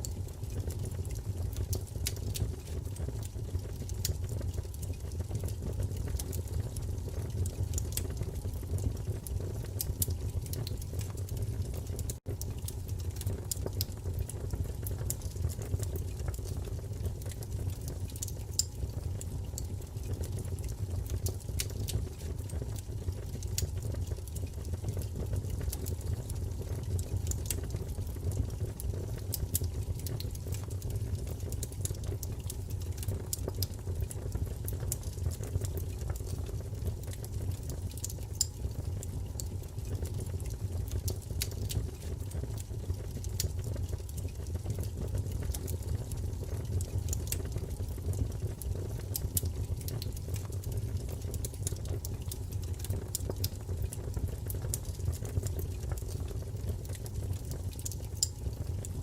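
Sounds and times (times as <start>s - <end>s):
fire crackling and popping: 0.0s - 59.0s
fire flames rumbling: 0.0s - 59.0s.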